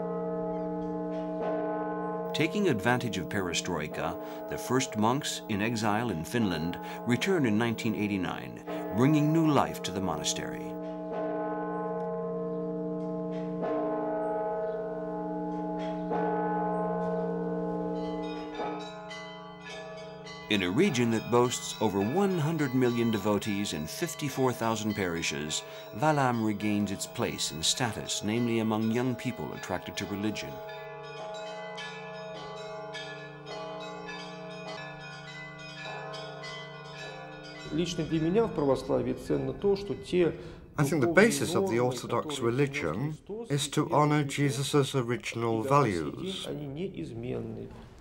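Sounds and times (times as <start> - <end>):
large church bell striking: 0.0 - 40.3
smaller higher bells striking: 0.0 - 43.0.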